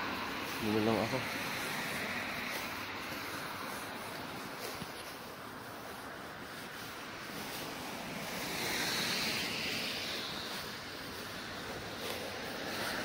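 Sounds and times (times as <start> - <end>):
passing car tyre hiss: 0.0 - 13.0
road traffic hiss: 0.0 - 13.0.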